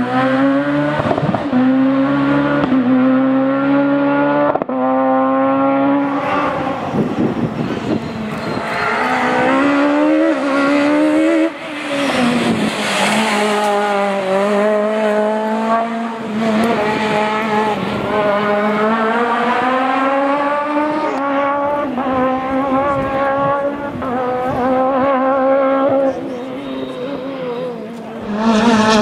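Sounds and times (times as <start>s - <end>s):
rally car engine at high revs: 0.0s - 29.0s.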